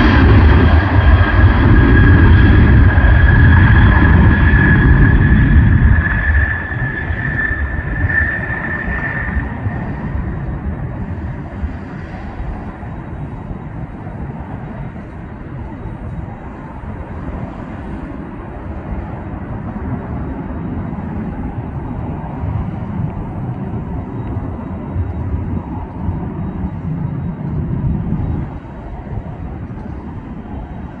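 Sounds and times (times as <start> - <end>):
jet engines deep rumble: 0.0 - 31.0.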